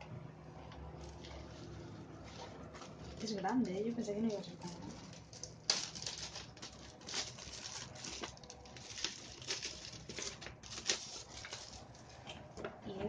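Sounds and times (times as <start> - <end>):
plastic packaging crinkling: 1.1 - 12.2.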